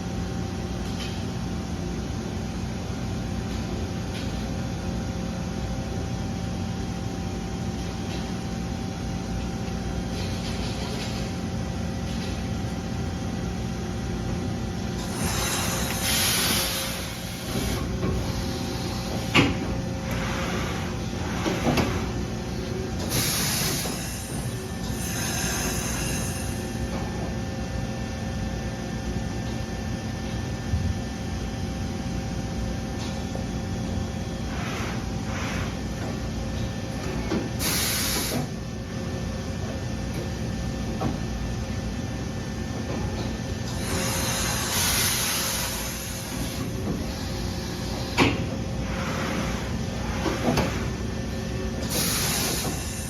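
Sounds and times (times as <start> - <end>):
machine hum with hissing: 0.0 - 53.0.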